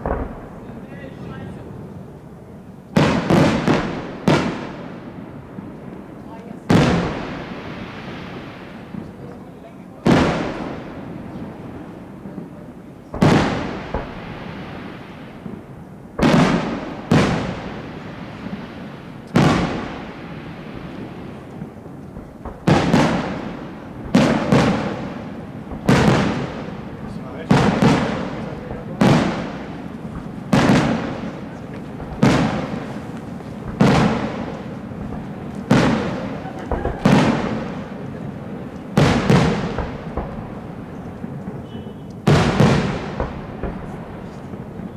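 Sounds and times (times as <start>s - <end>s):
firework shells bursting with echo: 0.0s - 44.9s.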